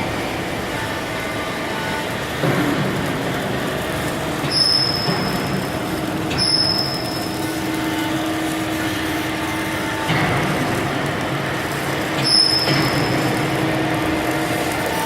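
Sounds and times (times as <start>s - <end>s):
press machinery running: 0.0s - 15.0s.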